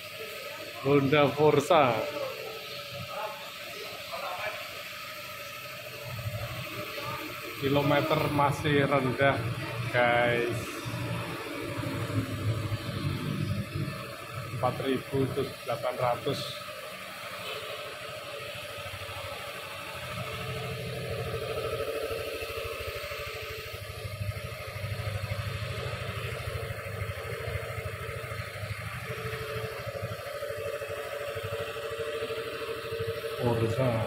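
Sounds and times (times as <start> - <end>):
scooter engine idling: 0.0 - 34.0.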